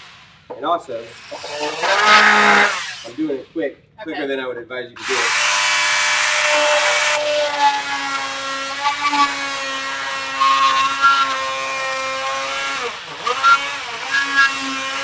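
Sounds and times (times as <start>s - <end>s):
multi-tool motor whining: 0.0s - 3.5s, 5.0s - 15.0s
blade rasping into wood: 1.1s - 3.2s, 5.0s - 15.0s.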